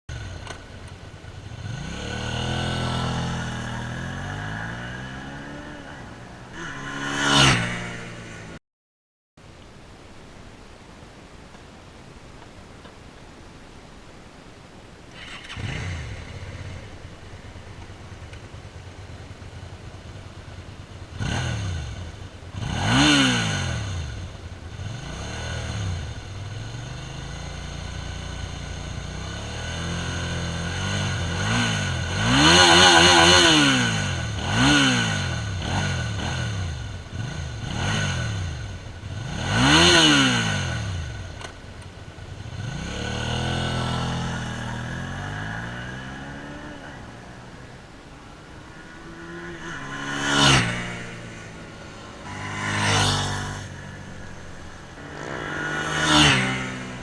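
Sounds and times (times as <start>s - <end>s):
motorcycle engine idling and revving: 0.1s - 8.6s, 15.1s - 57.0s.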